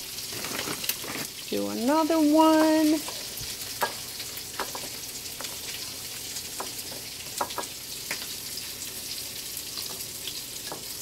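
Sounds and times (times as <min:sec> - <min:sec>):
oil crackling: 0:00.0 - 0:11.0
oil sizzling in a frying pan: 0:00.0 - 0:11.0.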